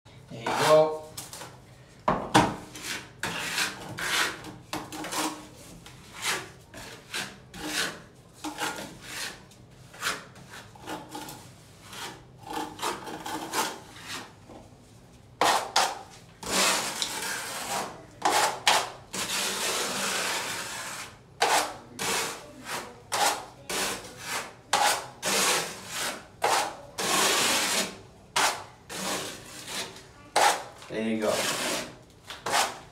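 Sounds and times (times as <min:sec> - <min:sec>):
putty knife scraping cement: 0:00.4 - 0:01.0, 0:02.7 - 0:14.3, 0:15.4 - 0:32.9.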